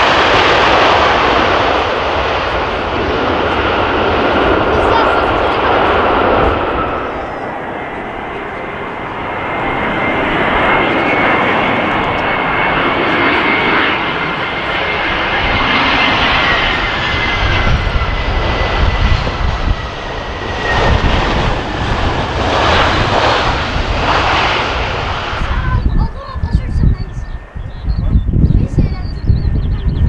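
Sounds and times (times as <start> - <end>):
jet engine whine: 0.0 - 30.0.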